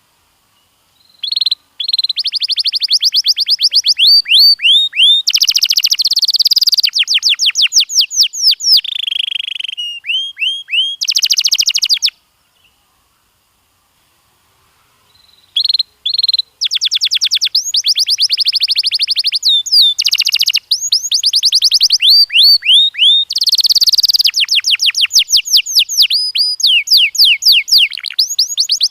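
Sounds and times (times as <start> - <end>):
canary singing: 1.0 - 12.2, 15.1 - 28.9.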